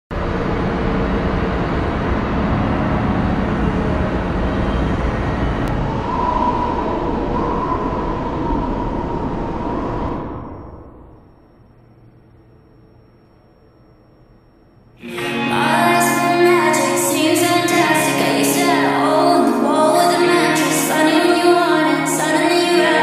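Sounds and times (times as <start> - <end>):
low rumbling noise: 0.1 - 23.0
wavering high whine: 0.1 - 23.0.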